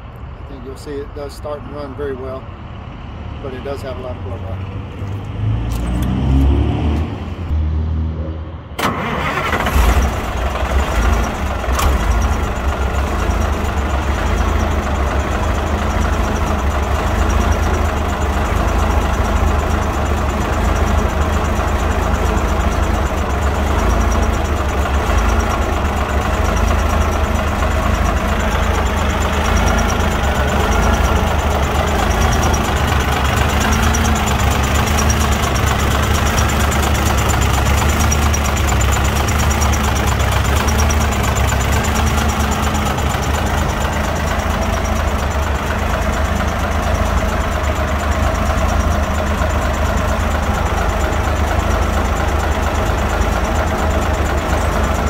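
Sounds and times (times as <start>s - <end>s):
truck engine idling: 0.0s - 5.2s, 8.8s - 55.0s
engine cranking on starter: 8.8s - 55.0s.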